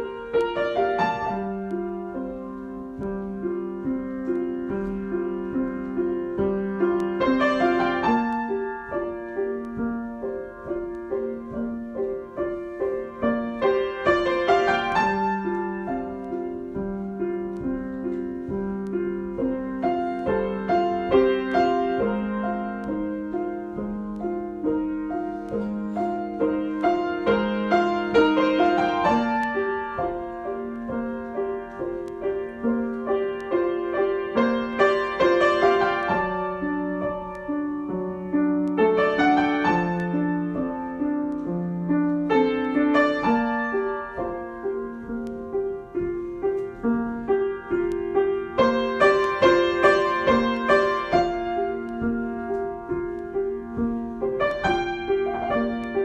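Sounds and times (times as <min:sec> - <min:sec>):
solo piano: 0:00.0 - 0:56.0.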